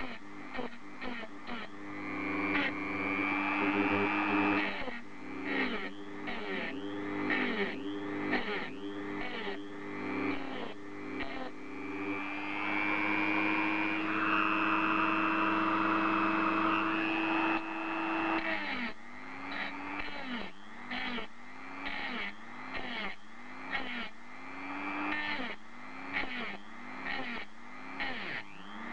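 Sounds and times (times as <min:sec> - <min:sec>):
cutting disc grinding screech: 0:00.0 - 0:28.6
rotary tool motor whine: 0:00.0 - 0:28.9.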